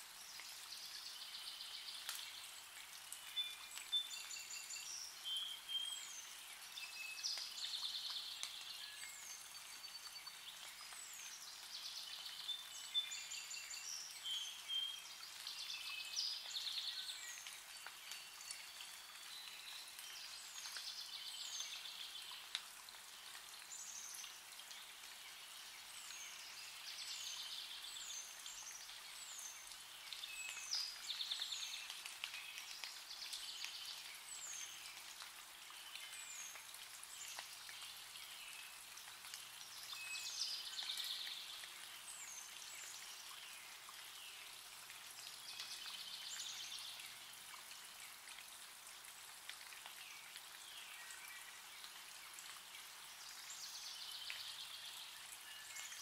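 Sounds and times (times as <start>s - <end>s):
songbirds singing: 0.1s - 48.6s, 49.4s - 56.0s.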